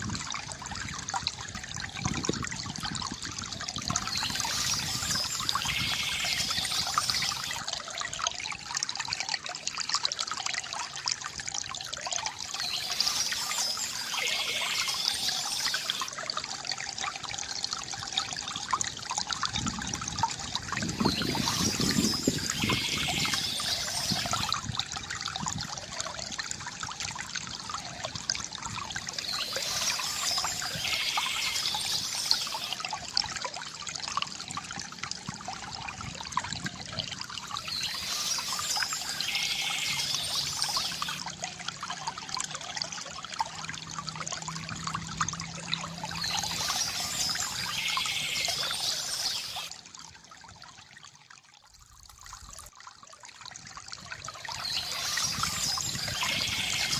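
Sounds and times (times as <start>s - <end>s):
water trickling from fountain: 0.0s - 56.9s.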